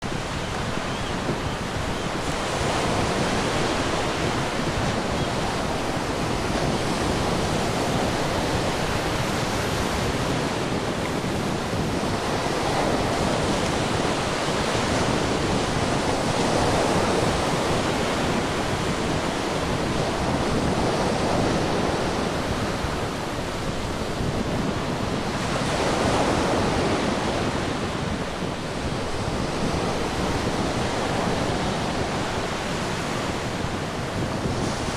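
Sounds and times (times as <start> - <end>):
ocean waves washing ashore: 0.0 - 34.9.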